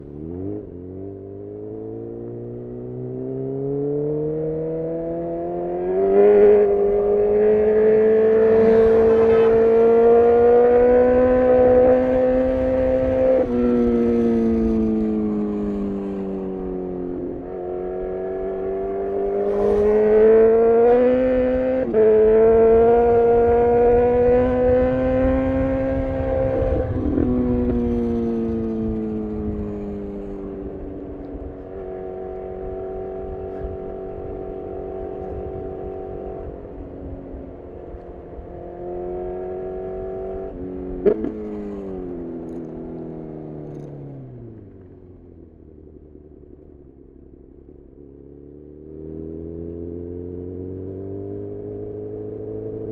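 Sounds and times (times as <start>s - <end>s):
motorcycle engine revving through gears: 0.0s - 52.9s.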